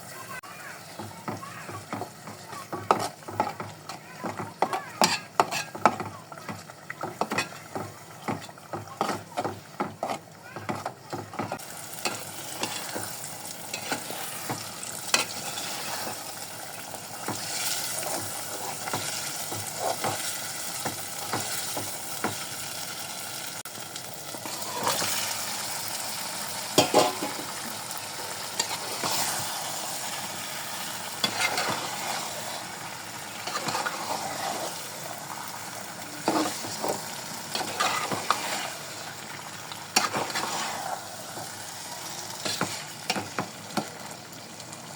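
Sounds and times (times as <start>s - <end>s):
curry sizzling in a pan: 0.0s - 44.9s
spoon scraping a pan: 0.8s - 16.4s, 17.2s - 22.4s, 24.4s - 25.7s, 26.7s - 44.0s.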